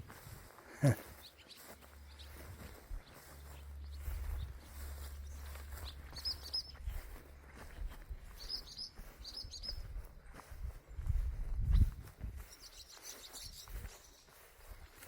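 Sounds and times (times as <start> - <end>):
swallows twittering: 1.0 - 15.0.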